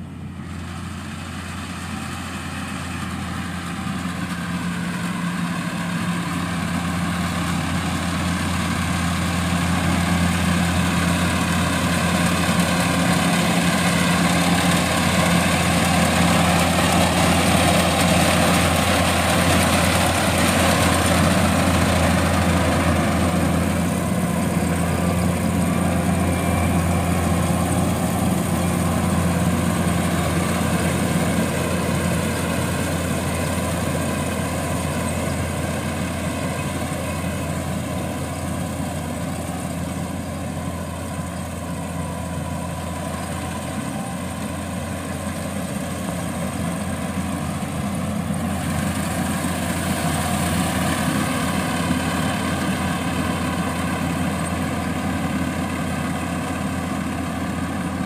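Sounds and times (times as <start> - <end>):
combine harvester diesel engine: 0.0 - 58.0
working machinery noise: 0.0 - 58.0.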